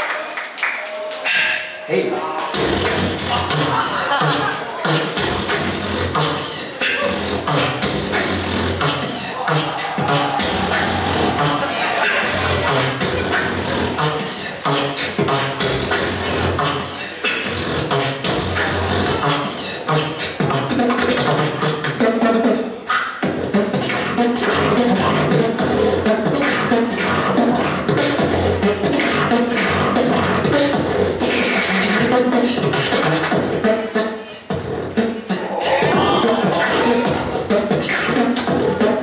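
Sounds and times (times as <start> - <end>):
beatboxing vocal drum hits: 2.5 - 39.0.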